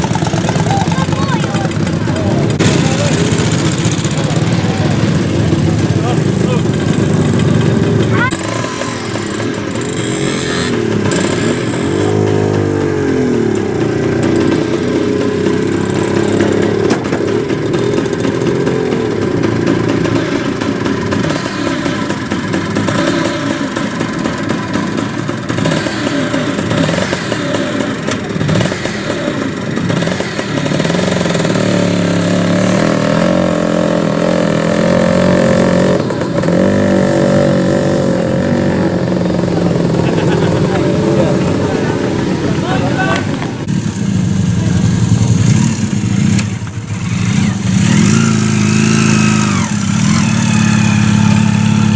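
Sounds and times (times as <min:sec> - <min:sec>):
engines running: 0:00.0 - 0:51.9.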